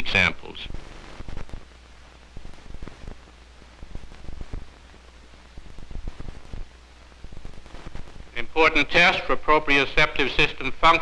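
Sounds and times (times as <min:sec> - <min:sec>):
crackles and pops: 0:00.0 - 0:11.0
film sound track hiss: 0:00.0 - 0:11.0.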